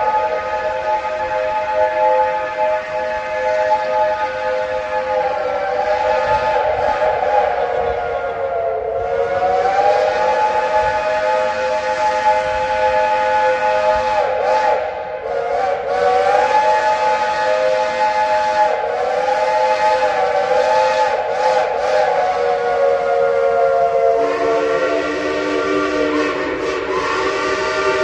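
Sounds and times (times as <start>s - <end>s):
locomotive steam whistles chord: 0.0s - 28.0s.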